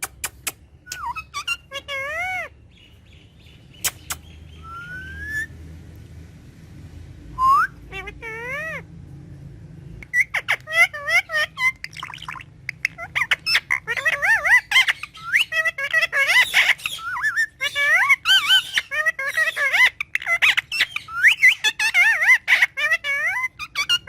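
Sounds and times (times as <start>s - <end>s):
parrot chattering: 0.0s - 2.6s, 3.7s - 5.5s, 7.4s - 8.9s, 10.0s - 24.0s.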